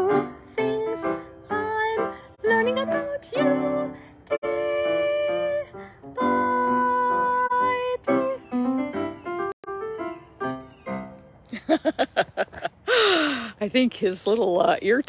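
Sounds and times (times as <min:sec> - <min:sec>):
piano accompaniment: 0:00.0 - 0:12.4.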